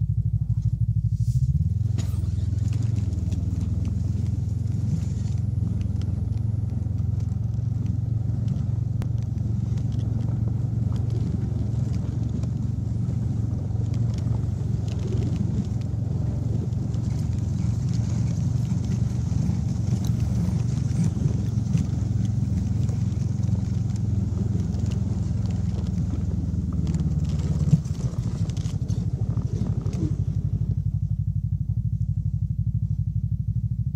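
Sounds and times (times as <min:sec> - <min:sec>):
snowmobile engine running: 0:00.0 - 0:33.9.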